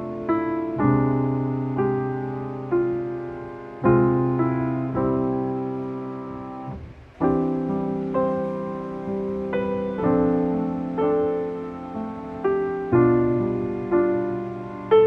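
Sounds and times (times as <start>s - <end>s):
slow gentle piano chords: 0.0s - 15.0s.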